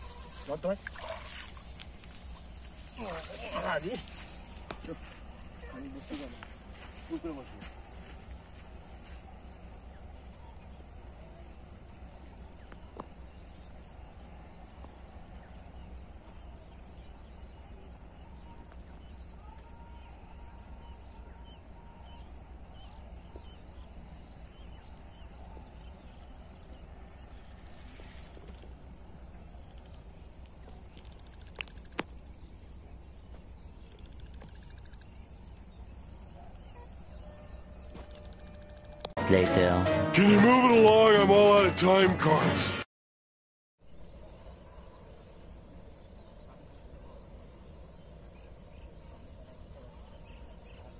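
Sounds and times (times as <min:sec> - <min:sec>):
insects chorus: 0:00.0 - 0:39.4, 0:43.8 - 0:50.9.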